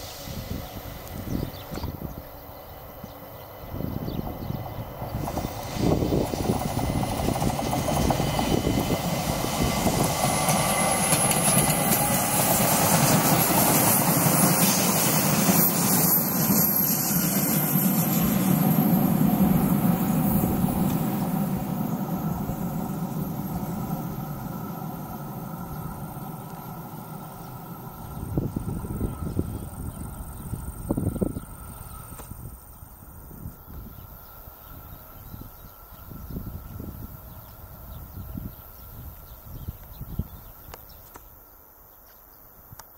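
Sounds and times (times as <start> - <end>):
electric train passing by: 0.0 - 41.9.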